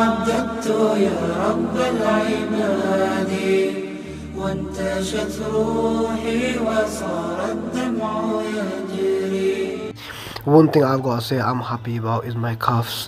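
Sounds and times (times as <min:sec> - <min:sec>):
chanted vocal song: 0:00.0 - 0:13.0.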